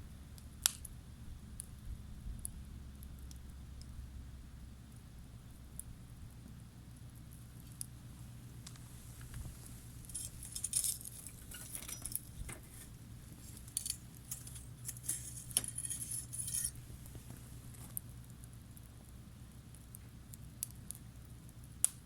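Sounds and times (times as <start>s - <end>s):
steady low hum: 0.0s - 22.0s
campfire crackling and popping: 0.3s - 4.2s, 4.8s - 22.0s.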